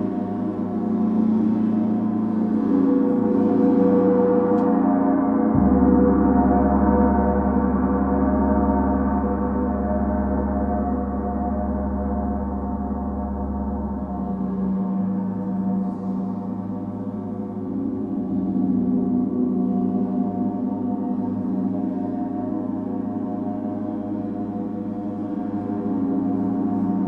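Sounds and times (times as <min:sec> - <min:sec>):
low steady drone: 0:00.0 - 0:27.0.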